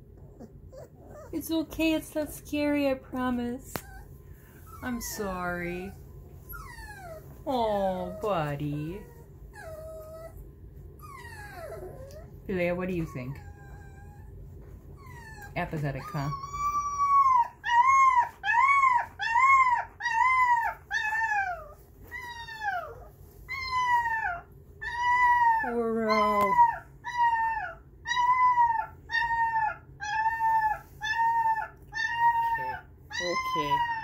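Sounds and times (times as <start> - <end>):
puppy crying and howling: 0.0 - 1.5, 3.7 - 14.4, 15.0 - 34.0.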